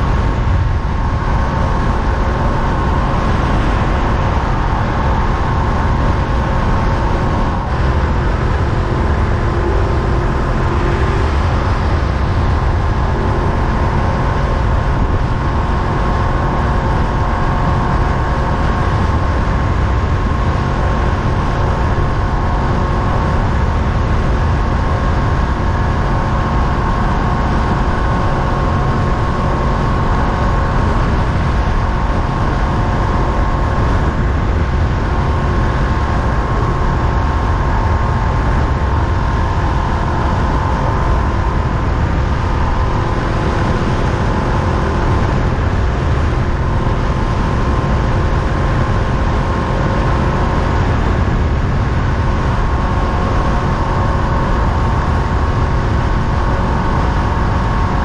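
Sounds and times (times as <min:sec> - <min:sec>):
motorcycle engine cruising: 0:00.0 - 0:58.0
wind rush over microphone: 0:00.0 - 0:58.0.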